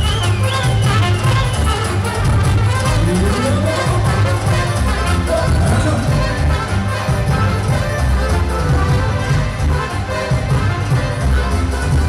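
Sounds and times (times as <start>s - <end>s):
amplified folk band: 0.0s - 12.0s
trumpet melody: 0.0s - 12.0s.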